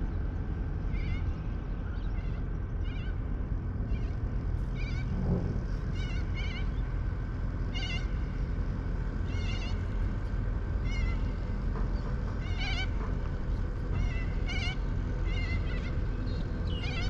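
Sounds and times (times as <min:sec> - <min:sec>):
bird calling with quavering cries: 0:00.0 - 0:17.0
steady low rumble: 0:00.0 - 0:17.0.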